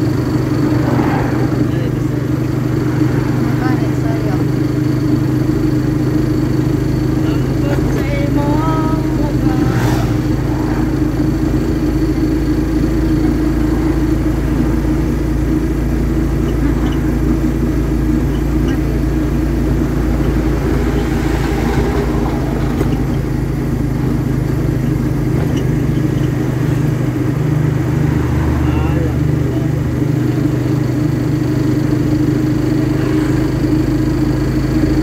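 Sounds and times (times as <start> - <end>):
road and wind noise: 0.0 - 35.0
vehicle engine running: 0.0 - 35.0.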